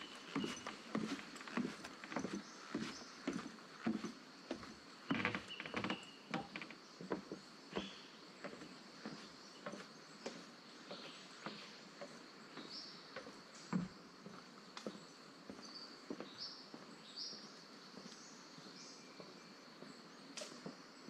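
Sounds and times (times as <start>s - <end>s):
footsteps on forest track: 0.0s - 20.9s.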